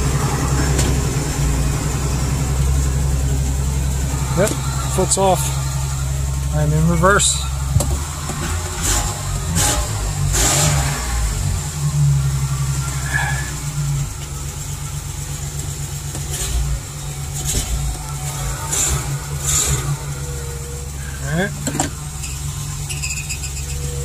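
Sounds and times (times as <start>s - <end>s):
van engine running: 0.0s - 24.0s.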